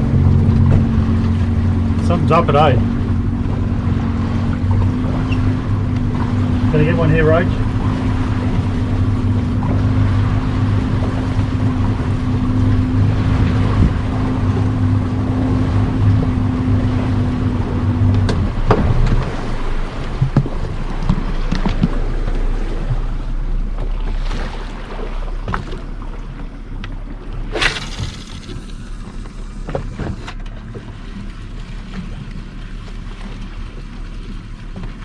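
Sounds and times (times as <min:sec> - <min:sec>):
outboard motor running: 0:00.0 - 0:35.0
water noise: 0:00.0 - 0:35.0
wind: 0:00.0 - 0:35.0.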